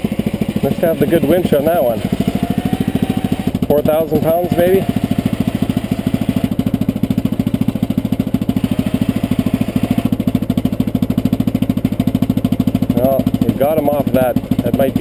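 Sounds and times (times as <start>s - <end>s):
engine thumping steadily: 0.0s - 15.0s.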